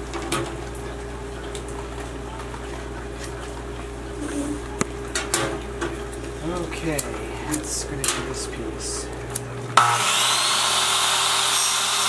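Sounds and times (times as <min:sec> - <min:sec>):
steady background hum: 0:00.0 - 0:10.1.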